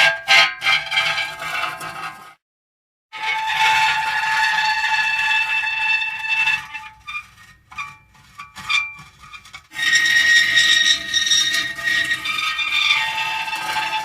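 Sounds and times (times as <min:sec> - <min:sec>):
metal creaking and squealing: 0:00.0 - 0:02.3, 0:03.2 - 0:14.0.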